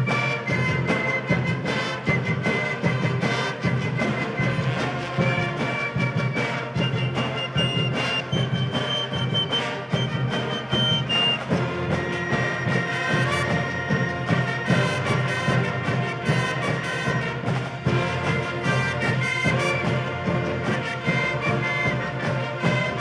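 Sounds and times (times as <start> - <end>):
brass and drum band playing: 0.0 - 23.0.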